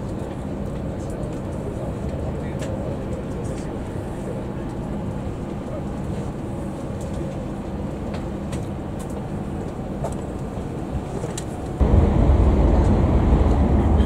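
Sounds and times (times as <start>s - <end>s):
train cabin rumble: 0.0s - 14.0s.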